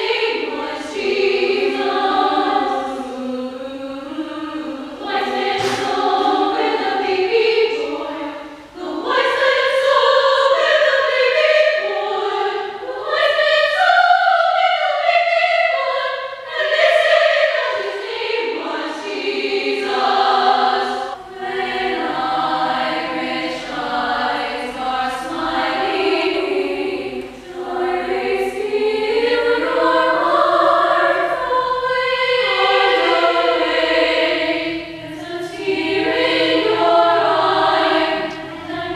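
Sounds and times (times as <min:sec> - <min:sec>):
women's and girls' choir singing: 0:00.0 - 0:38.9.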